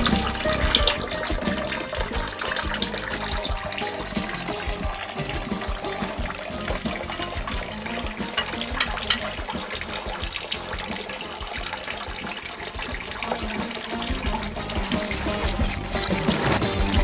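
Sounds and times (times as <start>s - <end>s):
juice running and splashing: 0.0s - 17.0s.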